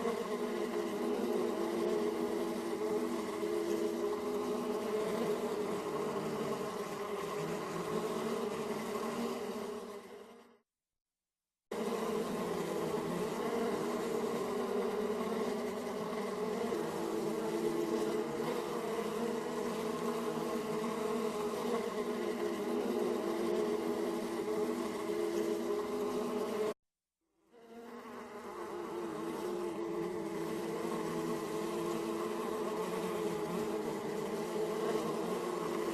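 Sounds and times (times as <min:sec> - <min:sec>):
bees buzzing: 0:00.0 - 0:10.0, 0:11.8 - 0:26.8, 0:27.7 - 0:35.9.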